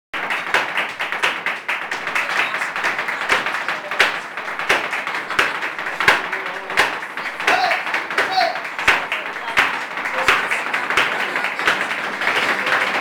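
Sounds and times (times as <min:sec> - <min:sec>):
men clapping hands rhythmically: 0:00.1 - 0:13.0.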